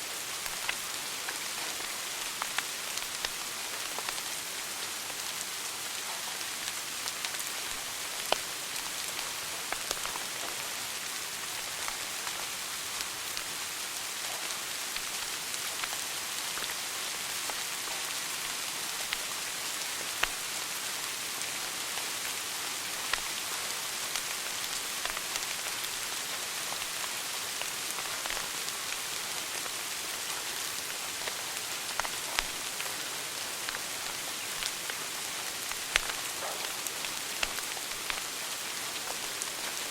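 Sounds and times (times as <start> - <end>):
wood fire crackling: 0.2 - 6.0, 6.6 - 20.4, 24.0 - 39.9.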